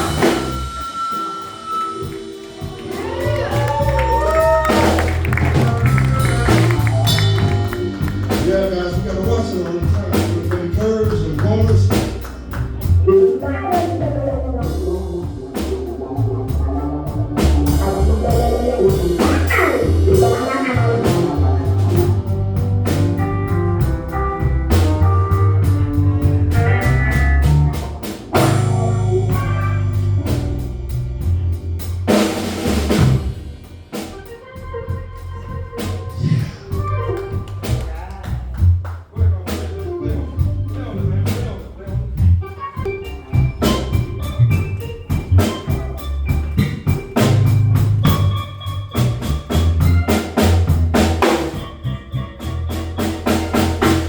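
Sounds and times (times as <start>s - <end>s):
electric guitar lead: 0.0s - 38.7s, 39.4s - 54.0s
bass guitar: 0.0s - 54.0s
drums: 0.0s - 54.0s.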